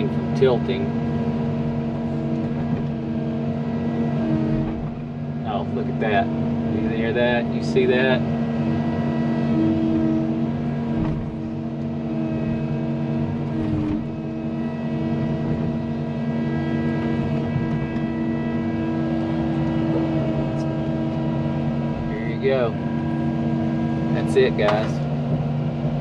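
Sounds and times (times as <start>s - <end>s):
diesel engine running under load: 0.0s - 26.0s
hydraulic whine: 0.0s - 26.0s.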